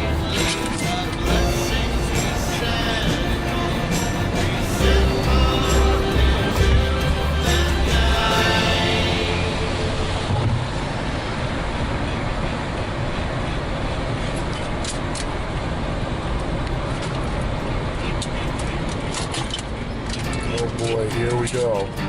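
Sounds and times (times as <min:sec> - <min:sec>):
vehicle running noise: 0:00.0 - 0:22.0.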